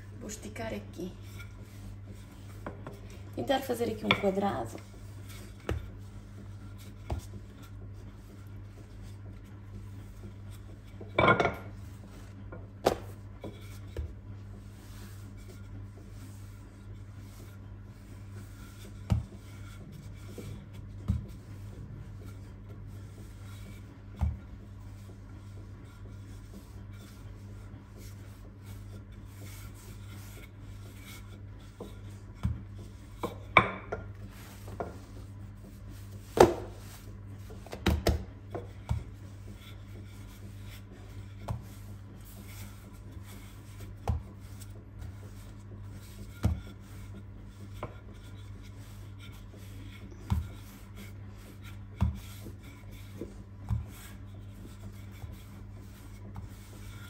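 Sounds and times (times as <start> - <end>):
rolling pin rubbing on dough: 0.0 - 57.0
steady low hum: 0.0 - 57.0.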